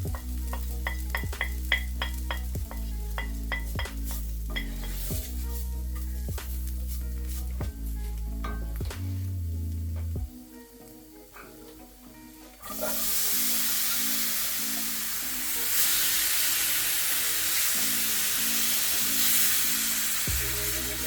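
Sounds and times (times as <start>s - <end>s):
food sizzling in a pan: 0.0s - 9.6s, 10.3s - 21.0s.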